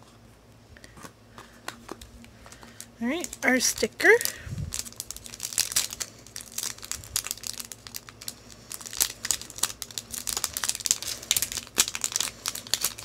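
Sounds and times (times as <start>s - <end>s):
plastic wrapper crinkling and tearing: 2.0s - 13.0s.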